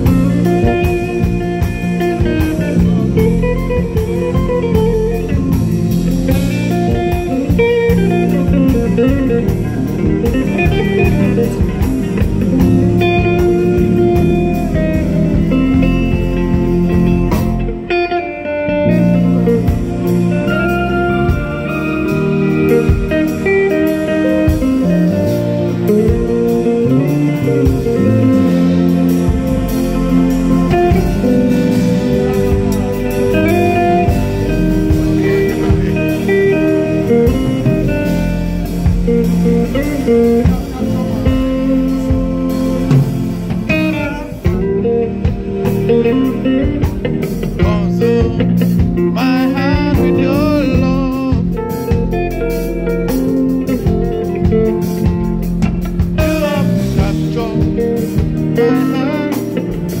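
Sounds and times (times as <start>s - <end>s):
electric guitar bent notes: 0.0s - 60.0s
live blues band playing: 0.0s - 60.0s.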